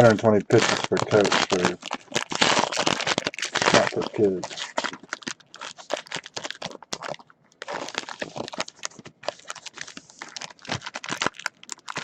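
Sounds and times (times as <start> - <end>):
packaging crinkling and clicking: 0.0 - 12.0.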